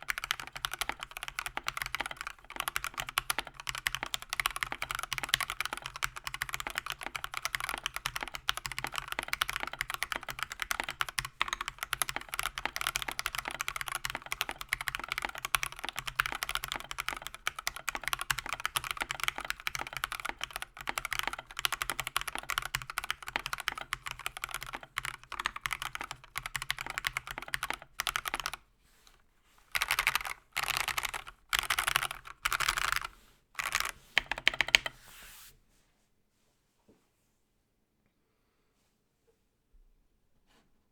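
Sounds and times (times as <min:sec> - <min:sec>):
mechanical keyboard typing: 0:00.0 - 0:28.6, 0:29.7 - 0:35.0.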